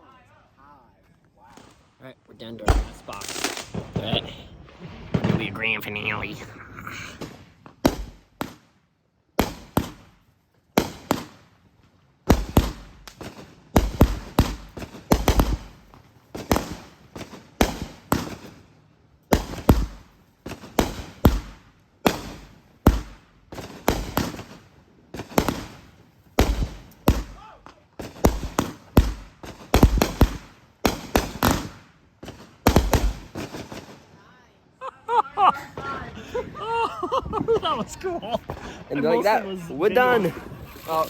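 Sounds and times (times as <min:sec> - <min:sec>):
fireworks sharp bangs: 0:01.5 - 0:02.0, 0:02.6 - 0:08.8, 0:09.4 - 0:10.2, 0:10.8 - 0:11.6, 0:12.2 - 0:34.2, 0:35.5 - 0:41.0.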